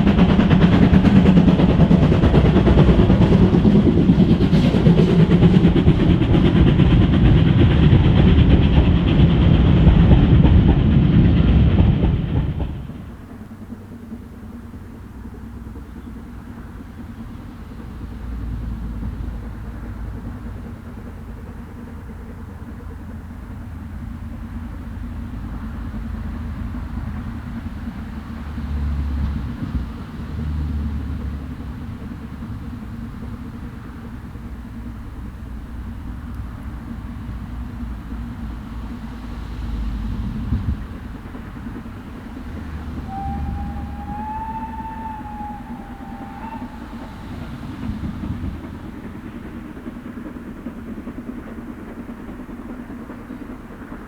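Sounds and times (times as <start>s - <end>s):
low rumble: 0.0s - 54.0s
steam train passing: 0.0s - 54.0s.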